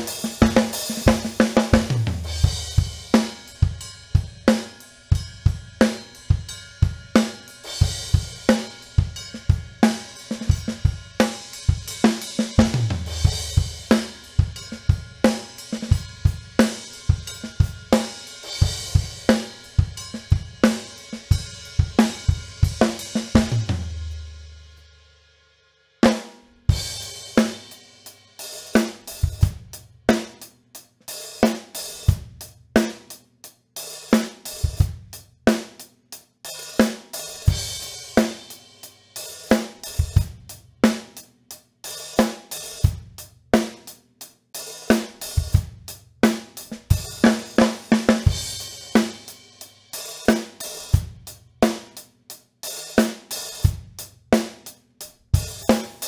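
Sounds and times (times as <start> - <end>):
acoustic drum kit groove: 0.0 - 24.9, 26.0 - 56.0.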